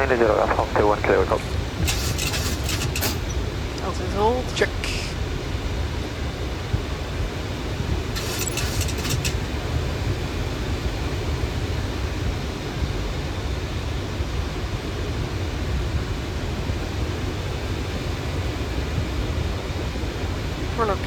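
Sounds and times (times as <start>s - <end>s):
aircraft cockpit rumble: 0.0s - 21.0s.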